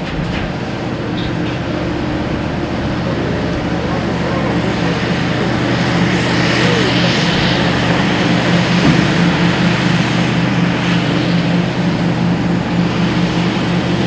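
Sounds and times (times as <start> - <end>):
diesel engines droning: 0.0 - 14.0.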